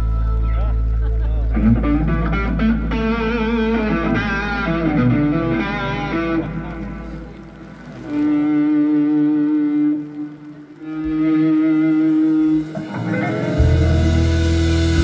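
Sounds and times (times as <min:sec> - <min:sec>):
bass guitar: 0:00.0 - 0:10.1, 0:10.8 - 0:15.0
electric guitar melody with bent notes: 0:00.0 - 0:15.0.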